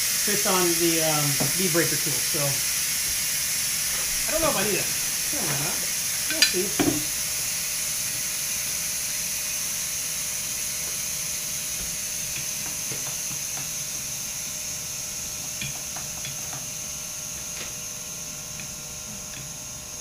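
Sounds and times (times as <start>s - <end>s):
air hissing out of a tire valve: 0.0s - 20.0s.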